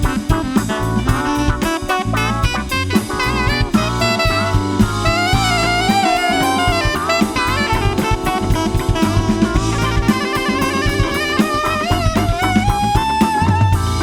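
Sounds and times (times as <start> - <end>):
bass: 0.0 - 14.0
drum kit steady beat: 0.0 - 14.0
saxophone line: 0.0 - 14.0.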